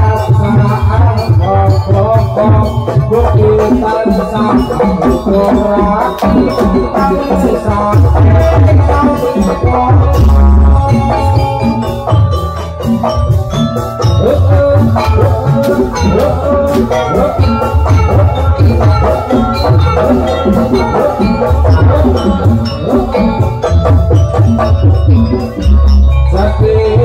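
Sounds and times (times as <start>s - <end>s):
deep drum beats: 0.0s - 27.0s
wavering melodic line: 0.0s - 27.0s.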